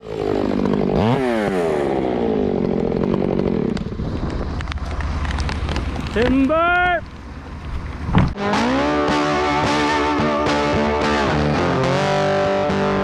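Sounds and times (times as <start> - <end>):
chainsaw revving and idling: 0.0 - 6.3, 8.4 - 13.0.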